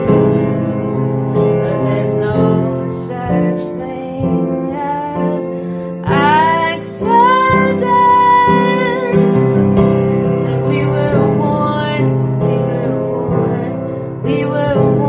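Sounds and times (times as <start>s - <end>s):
piano accompaniment: 0.0s - 15.0s
woman singing: 1.3s - 9.6s, 10.3s - 15.0s.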